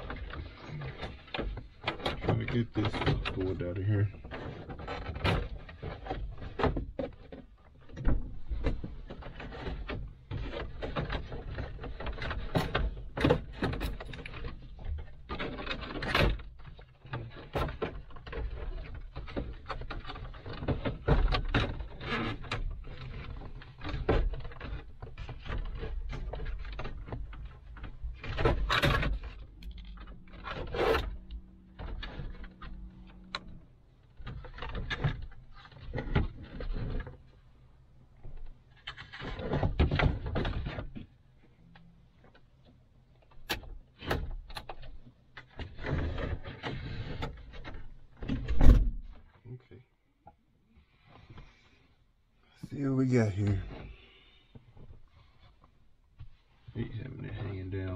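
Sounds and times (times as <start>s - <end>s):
clicks and clunks: 0.0s - 49.4s
dashboard parts rubbing and scraping: 0.0s - 49.4s, 52.7s - 57.9s.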